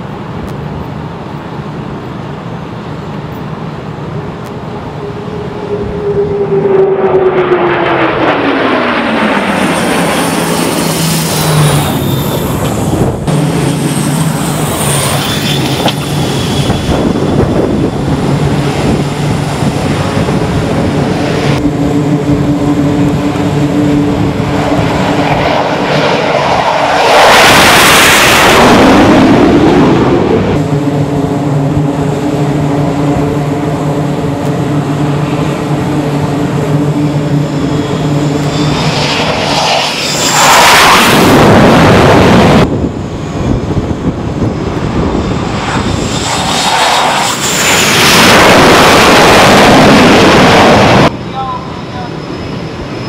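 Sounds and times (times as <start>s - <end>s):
jet passing: 0.0s - 53.0s
loud steady jet engine noise: 0.0s - 53.0s.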